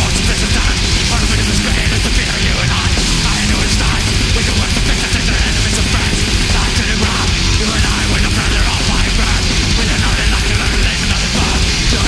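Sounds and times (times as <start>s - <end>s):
distorted electric guitars: 0.0s - 12.0s
fast dense drumming: 0.0s - 12.0s.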